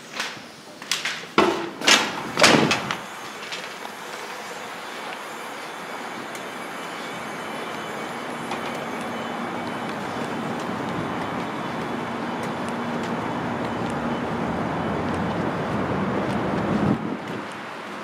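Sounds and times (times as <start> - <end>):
urban background rumble: 0.0 - 18.0.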